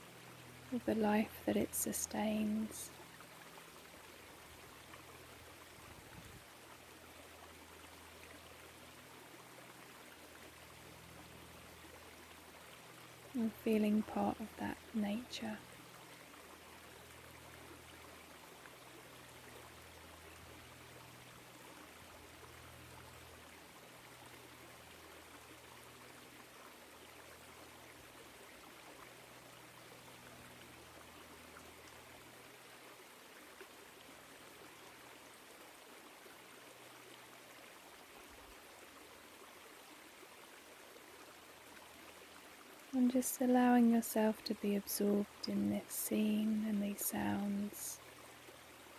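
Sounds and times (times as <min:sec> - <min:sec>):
stream flowing: 0:00.0 - 0:48.9.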